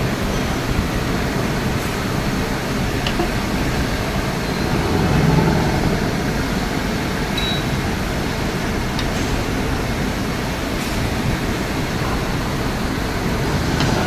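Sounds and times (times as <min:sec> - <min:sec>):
industrial machinery rumbling: 0:00.0 - 0:14.0.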